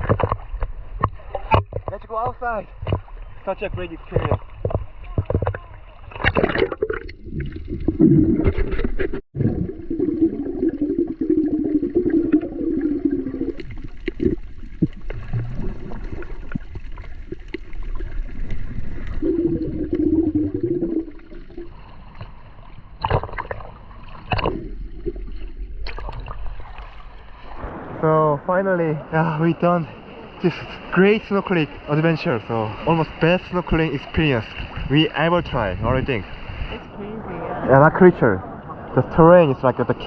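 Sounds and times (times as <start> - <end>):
water gurgling and sloshing: 0.0 - 40.0.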